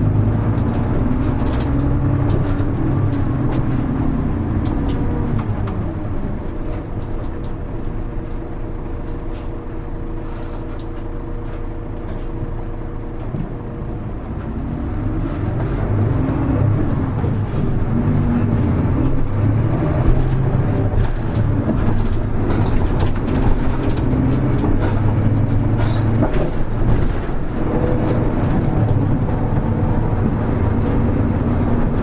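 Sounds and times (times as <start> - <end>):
bus body rattles and clicks: 0.0 - 32.0
bus diesel engine: 0.0 - 32.0.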